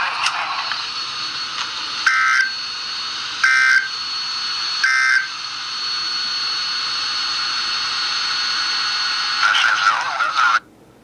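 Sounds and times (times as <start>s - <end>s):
steady radio static hiss: 0.0s - 11.0s.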